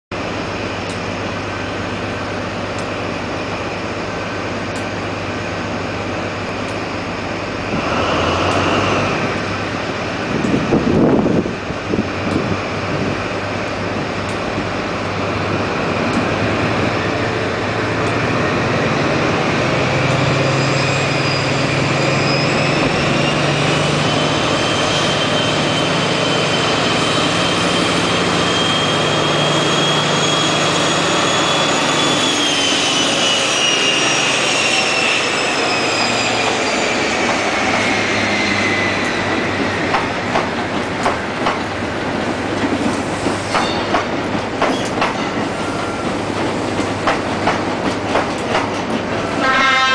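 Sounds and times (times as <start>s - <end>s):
diesel locomotive engine whine: 0.1s - 49.9s.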